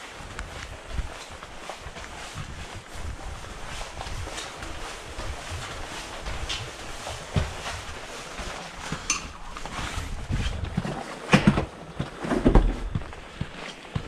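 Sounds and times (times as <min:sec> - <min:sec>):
footsteps: 0:00.0 - 0:14.0.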